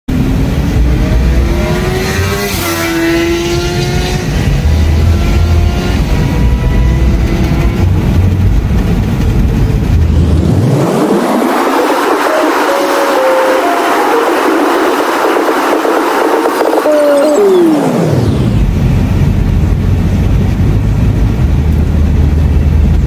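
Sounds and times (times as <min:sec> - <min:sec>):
road rumble: 0:00.1 - 0:23.0
motorcycle engine whine passing: 0:00.2 - 0:20.2.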